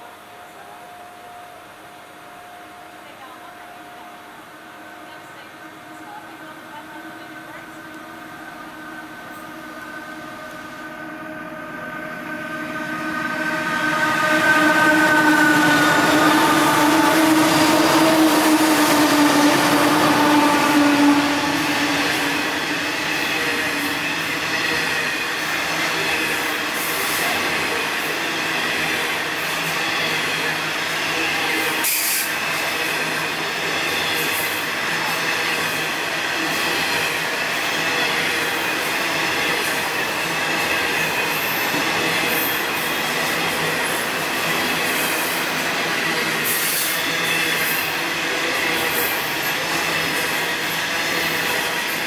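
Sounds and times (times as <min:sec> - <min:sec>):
diesel locomotive engines droning: 0:00.0 - 0:52.0.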